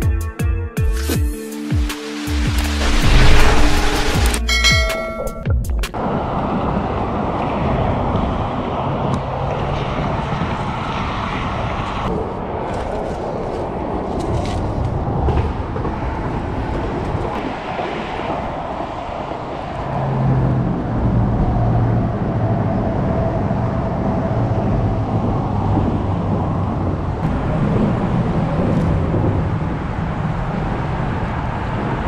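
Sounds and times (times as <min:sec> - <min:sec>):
traffic rumble on bridge overhead: 0:02.6 - 0:32.0
faint tire whine: 0:06.0 - 0:32.0.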